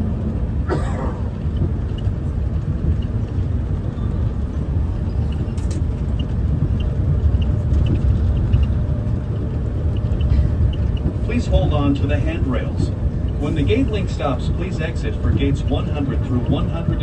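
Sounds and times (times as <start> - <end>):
shuttle train interior rumble: 0.0 - 17.0.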